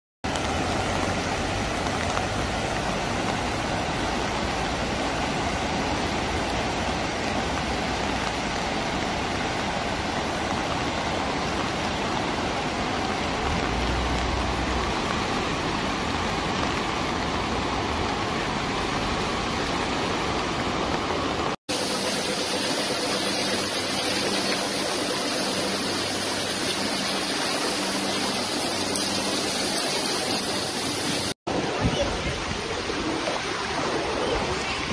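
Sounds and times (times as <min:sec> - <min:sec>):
floodwater rushing: 0:00.2 - 0:34.9
thin steady rushing noise: 0:00.3 - 0:31.4.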